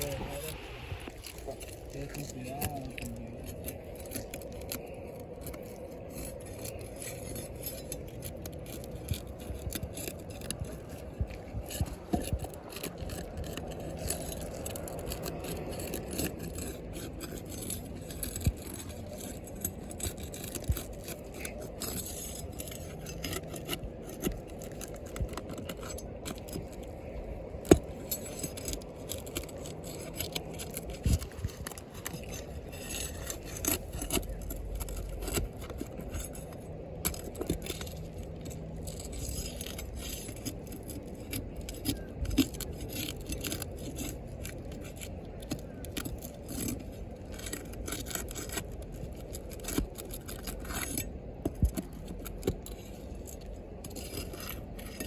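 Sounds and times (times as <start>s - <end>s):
low steady hum: 0.0s - 55.0s
objects scraping clinking and knocking: 0.0s - 55.0s.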